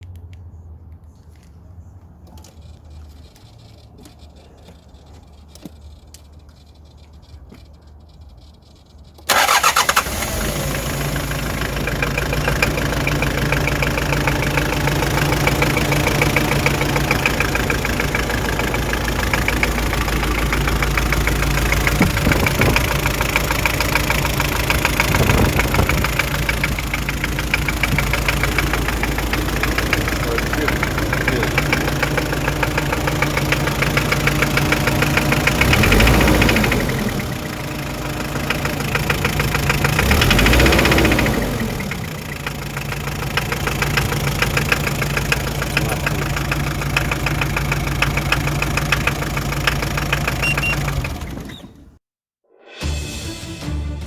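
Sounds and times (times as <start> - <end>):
diesel engine clatter: 2.2 - 52.0.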